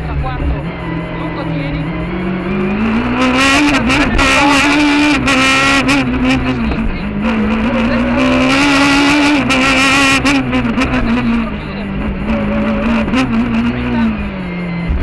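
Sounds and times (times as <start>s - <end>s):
high-revving car engine: 0.0s - 15.0s.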